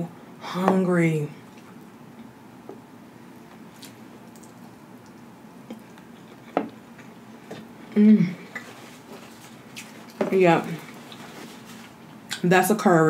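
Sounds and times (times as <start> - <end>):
soft chewing: 1.4 - 12.4.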